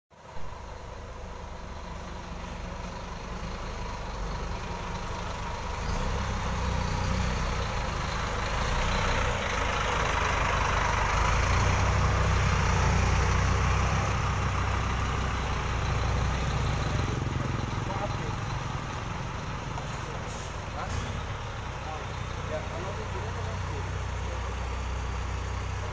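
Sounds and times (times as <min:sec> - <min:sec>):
bus diesel engine at low revs: 0:00.1 - 0:25.9.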